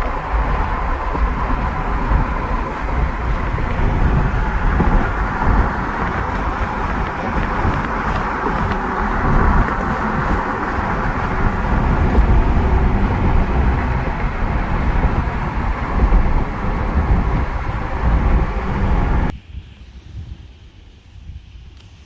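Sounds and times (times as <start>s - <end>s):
car road and wind noise: 0.0s - 19.4s.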